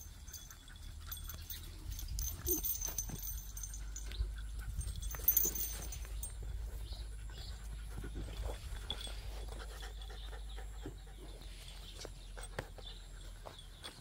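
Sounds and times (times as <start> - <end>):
puppies panting: 0.0 - 14.0
puppies scuffling: 0.0 - 14.0.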